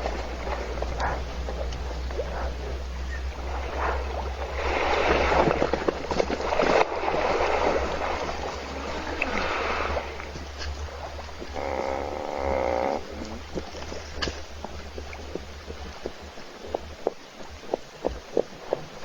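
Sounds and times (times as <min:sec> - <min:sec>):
steady low hum: 0:00.0 - 0:17.2
water gurgling and sloshing: 0:00.0 - 0:19.0.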